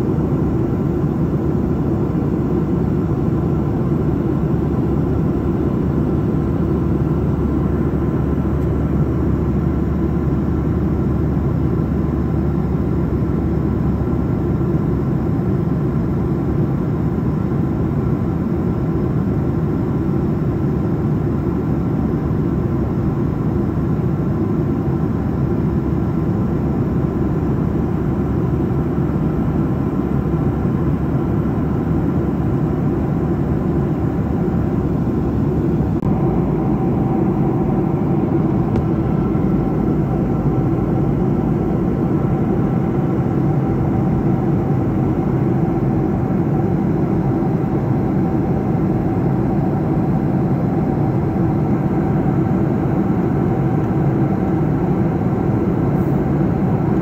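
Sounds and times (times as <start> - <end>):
faint steady hum: 0.0 - 57.0
jet engine roar and rushing air: 0.0 - 57.0.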